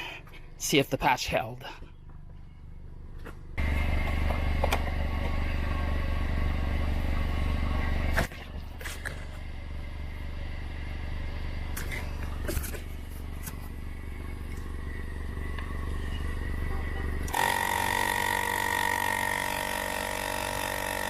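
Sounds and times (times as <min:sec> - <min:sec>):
air compressor motor hum: 0:02.8 - 0:21.0.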